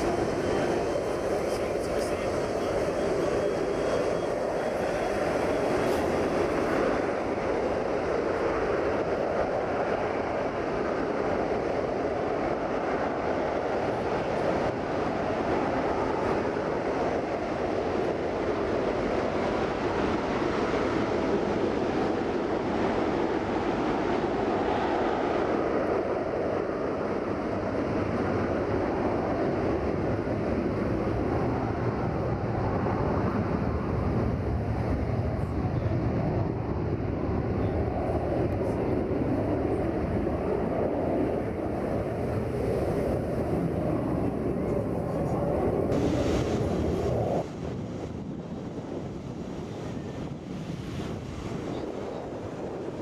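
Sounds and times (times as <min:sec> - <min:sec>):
jet airliner engines roaring: 0:00.0 - 0:53.0.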